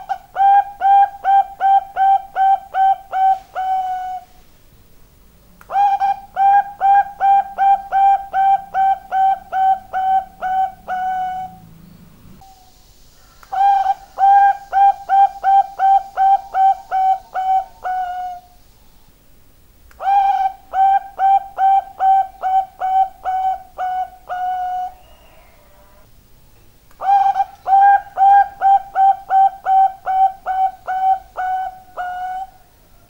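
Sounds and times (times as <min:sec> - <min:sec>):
dove cooing: 0:00.0 - 0:04.4, 0:05.7 - 0:18.6, 0:20.0 - 0:26.1, 0:27.0 - 0:33.0.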